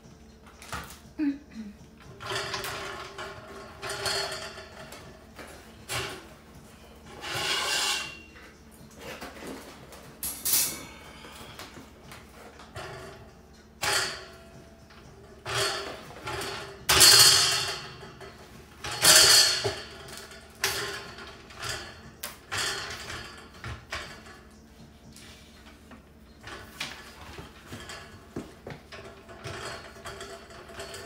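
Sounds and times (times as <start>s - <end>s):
steel frame parts scraping and rattling: 2.0s - 31.0s.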